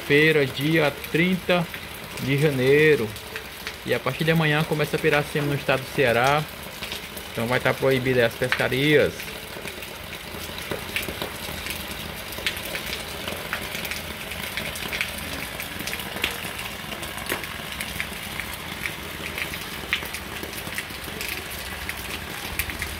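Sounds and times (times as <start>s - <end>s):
heavy rain: 0.0s - 22.9s
raindrops tapping close by: 0.0s - 22.9s.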